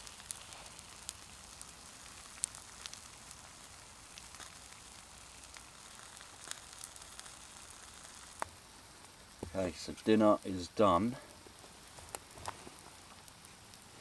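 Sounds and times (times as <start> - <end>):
food sizzling on hot stone: 0.0 - 14.0
wood fire crackling: 0.0 - 14.0.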